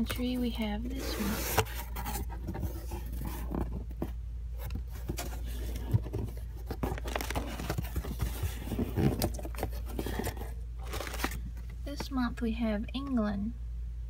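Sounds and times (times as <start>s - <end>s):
cardboard box and paper handled: 0.0s - 12.1s
steady low hum: 0.0s - 14.0s.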